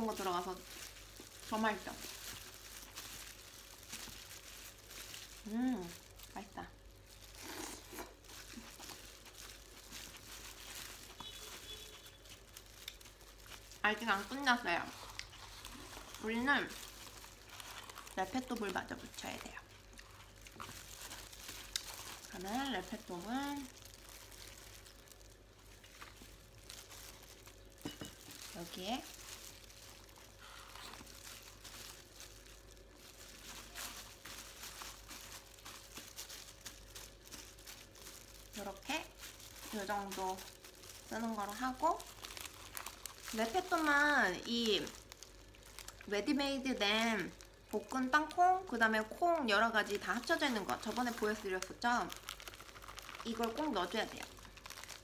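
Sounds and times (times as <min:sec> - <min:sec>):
plastic gloves crinkling: 0:00.0 - 0:55.0.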